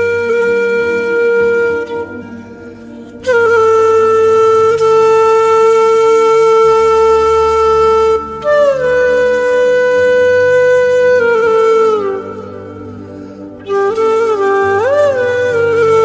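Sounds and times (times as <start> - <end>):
flute-like wind instrument: 0.0 - 16.0.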